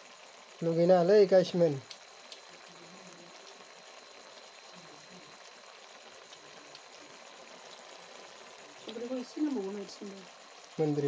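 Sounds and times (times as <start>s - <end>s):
curry simmering with bubbling hiss: 0.0s - 11.0s.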